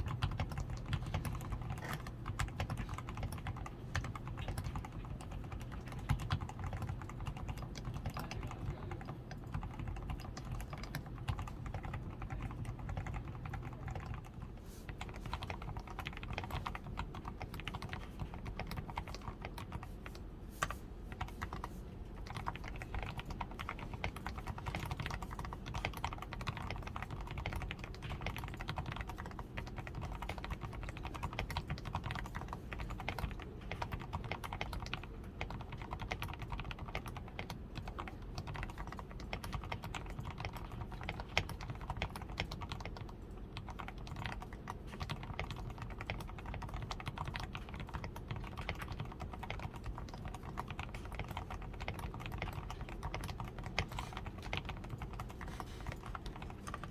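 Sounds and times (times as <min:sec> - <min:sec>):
typing on mechanical keyboard: 0:00.0 - 0:56.9.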